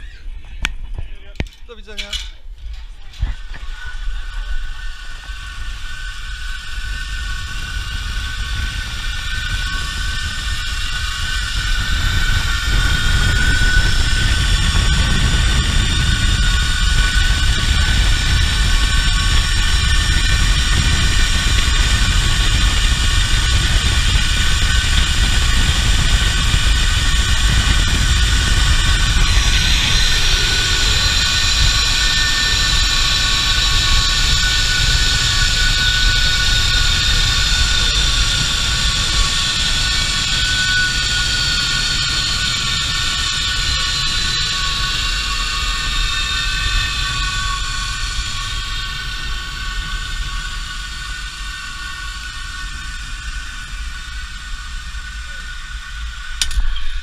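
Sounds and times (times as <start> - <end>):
zip line pulleys whining: 1.9 - 57.0
wind rushing on microphone: 2.5 - 53.7.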